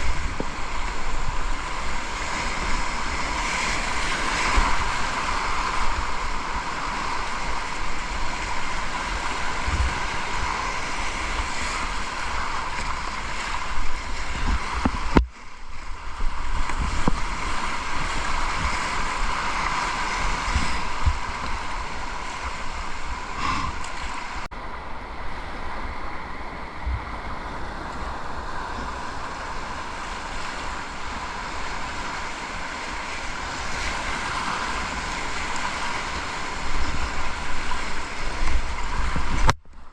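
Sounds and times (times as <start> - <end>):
wind buffeting microphone: 0.0 - 24.5, 26.4 - 39.9
river water rushing: 0.0 - 39.5.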